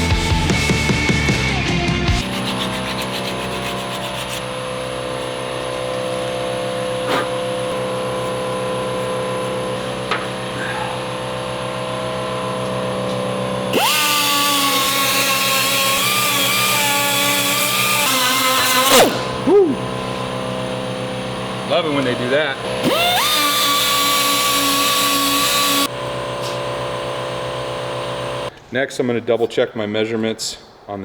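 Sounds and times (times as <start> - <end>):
power tool whining: 2.1 - 28.5
grinding on steel tubing: 2.2 - 28.5.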